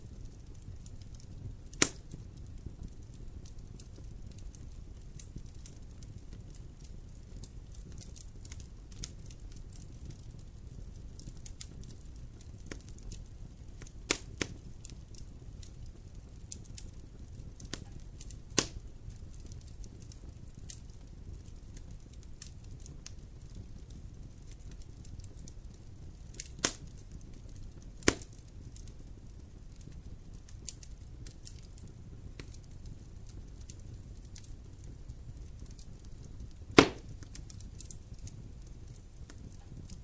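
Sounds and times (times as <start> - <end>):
wood fire crackling: 0.0 - 40.0
sharp pops of burning wood: 0.3 - 29.0, 29.7 - 40.0.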